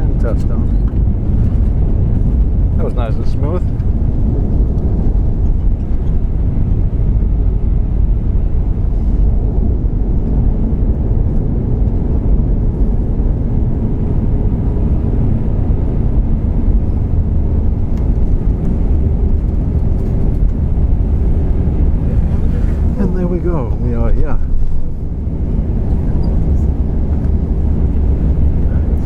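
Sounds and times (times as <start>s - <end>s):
airliner engine and wheel rumble: 0.0s - 29.0s.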